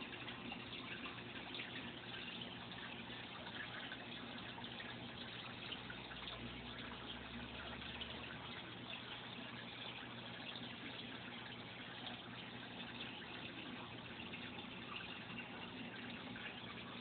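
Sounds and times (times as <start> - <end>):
aquarium water trickling: 0.0 - 17.0
faint low hum: 0.0 - 17.0.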